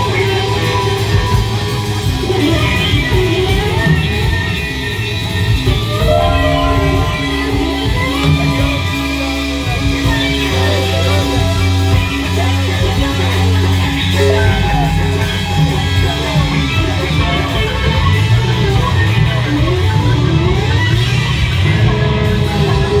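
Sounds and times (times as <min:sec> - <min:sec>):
bending electric guitar lines: 0:00.0 - 0:23.0
rock band playing live: 0:00.0 - 0:23.0.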